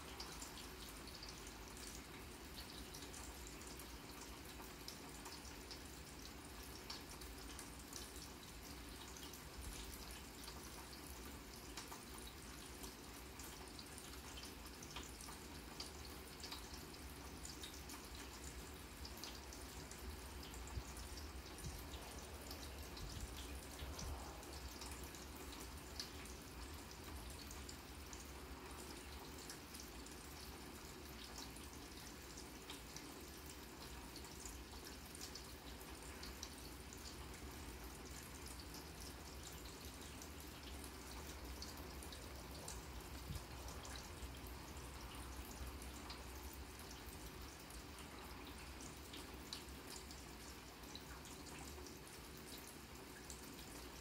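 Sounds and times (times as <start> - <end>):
rain hissing on grass: 0.0 - 54.0.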